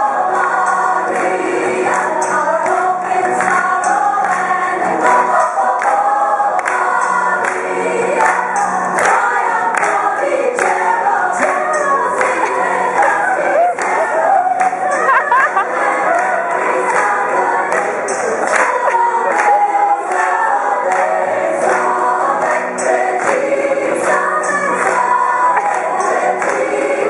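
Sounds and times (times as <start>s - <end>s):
choir singing over music: 0.0s - 27.0s
handclaps: 0.4s - 27.0s.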